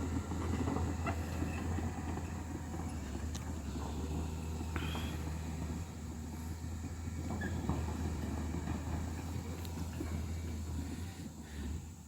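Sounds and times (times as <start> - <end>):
engine running with low rumble: 0.0 - 12.0.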